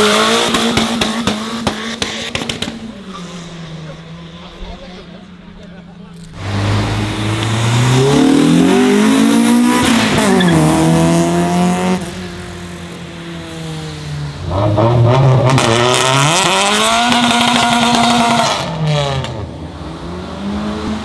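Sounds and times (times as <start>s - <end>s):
car engines revving hard: 0.0s - 21.0s.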